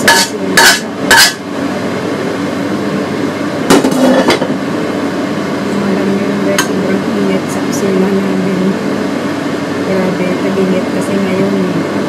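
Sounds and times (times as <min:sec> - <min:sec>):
rushing kitchen noise: 0:00.0 - 0:12.0.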